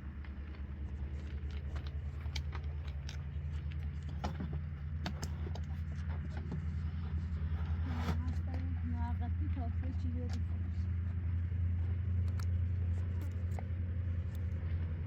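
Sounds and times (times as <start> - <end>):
low engine rumble: 0.0 - 15.0
light clicks and rattles: 0.1 - 15.0.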